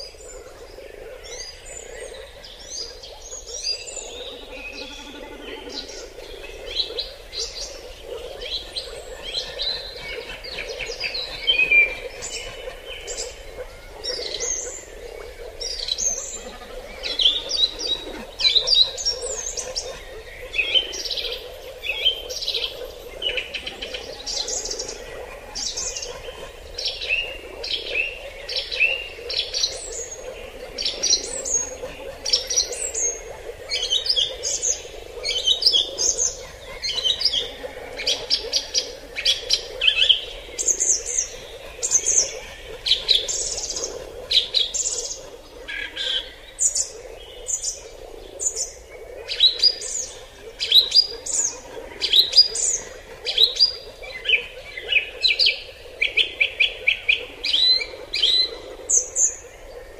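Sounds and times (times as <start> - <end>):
forest birds chirping: 0.0 - 59.9.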